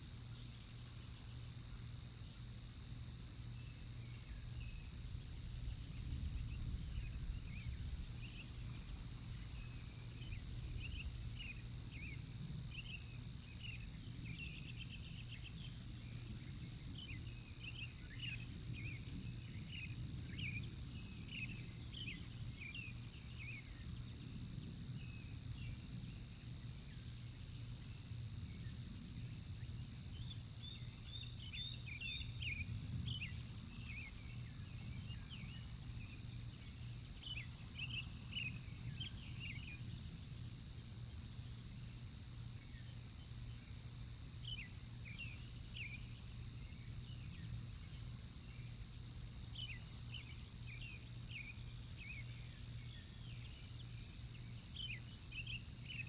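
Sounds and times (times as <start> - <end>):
high electronic whine: 0.0 - 56.0.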